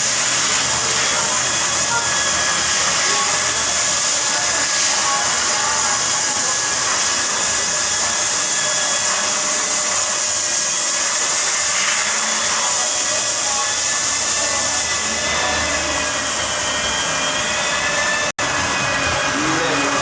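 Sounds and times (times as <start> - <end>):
power tool whirring: 0.0 - 20.0.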